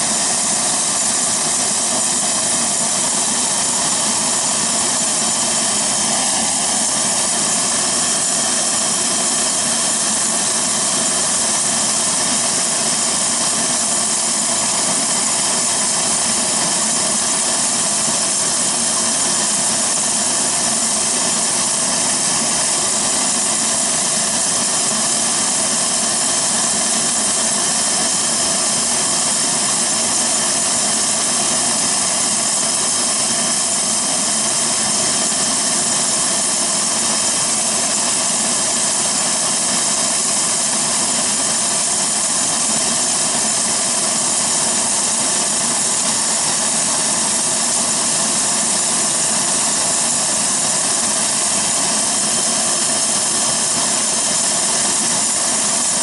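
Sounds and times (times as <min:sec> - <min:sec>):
jet engines idling: 0:00.0 - 0:56.0.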